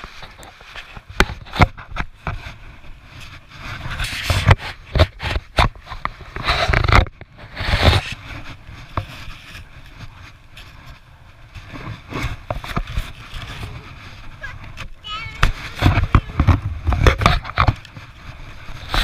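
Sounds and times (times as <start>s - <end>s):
snow shovel scraping snow: 0.0s - 19.0s.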